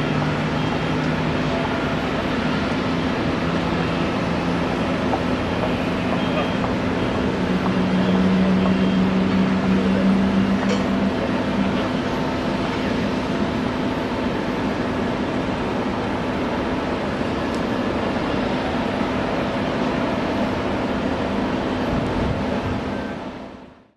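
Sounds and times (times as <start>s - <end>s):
jet engines running: 0.0s - 23.7s.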